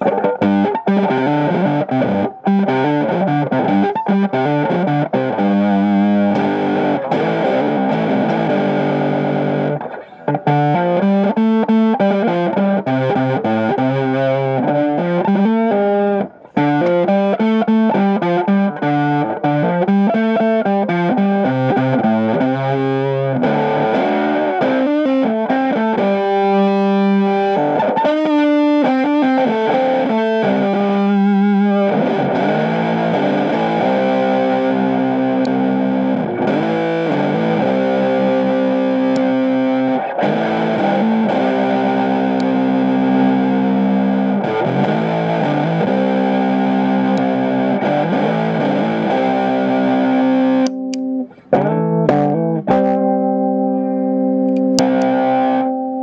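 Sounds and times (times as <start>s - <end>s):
electric guitar chords and notes: 0.0s - 56.0s.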